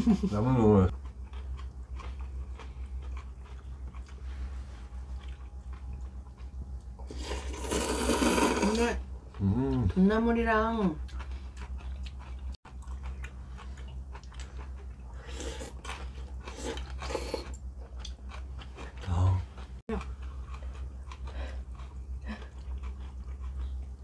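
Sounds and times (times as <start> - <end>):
steady low hum: 0.0 - 24.0
chewing and crunching food: 0.9 - 24.0.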